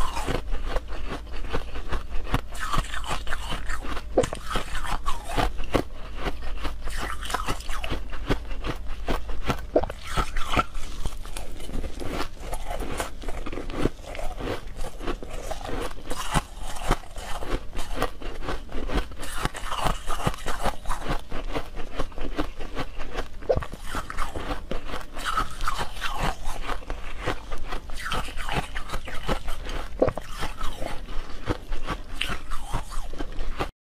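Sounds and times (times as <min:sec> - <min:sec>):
ice being bitten and chewed: 0:00.0 - 0:33.7.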